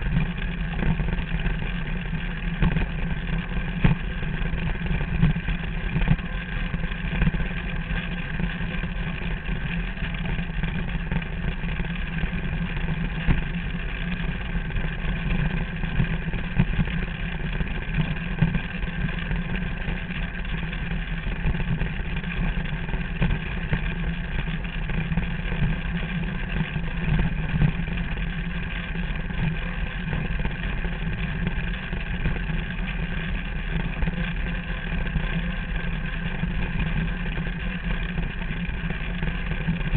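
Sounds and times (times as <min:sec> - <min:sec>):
small motor running steadily: 0:00.0 - 0:39.9.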